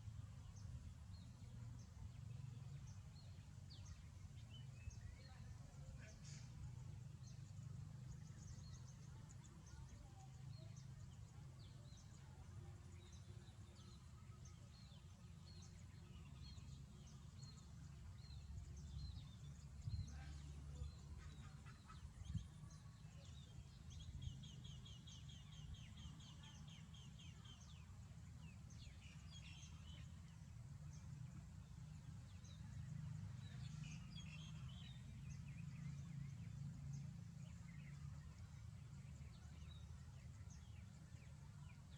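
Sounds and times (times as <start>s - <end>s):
small birds chirping: 0.1s - 41.9s.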